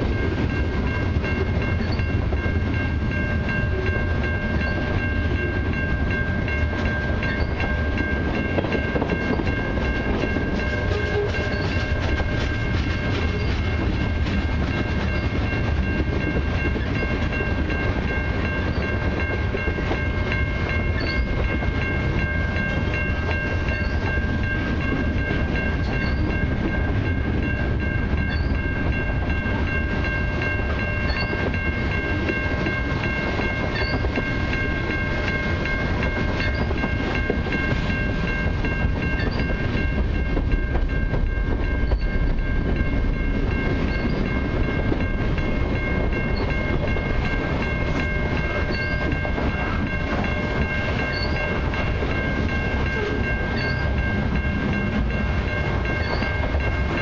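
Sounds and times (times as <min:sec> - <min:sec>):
freight train wheels rumbling: 0:00.0 - 0:57.0
high ringing tones: 0:00.0 - 0:57.0.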